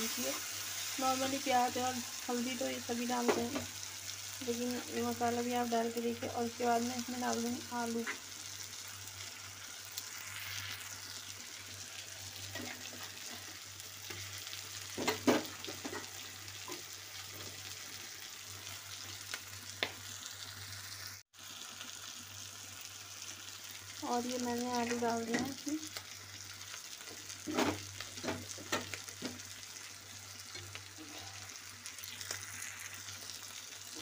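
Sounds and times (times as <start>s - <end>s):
spices sizzling in a pan: 0.0s - 34.0s.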